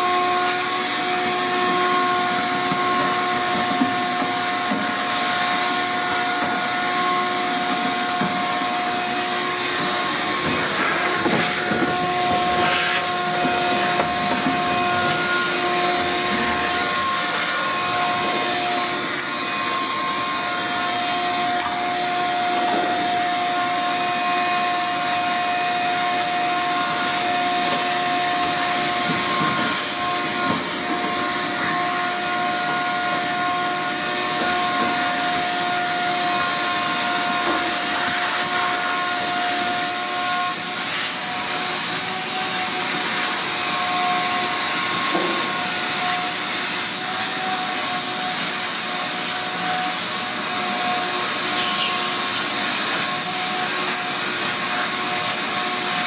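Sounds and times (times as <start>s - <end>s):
shop vacuum running: 0.0s - 56.0s.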